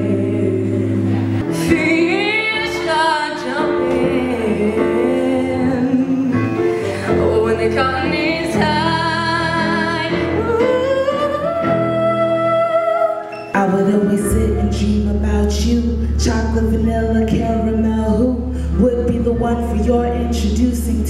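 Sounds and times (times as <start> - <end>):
woman singing into a microphone: 0.0 - 21.0
woman singing over bass and beat: 0.0 - 21.0.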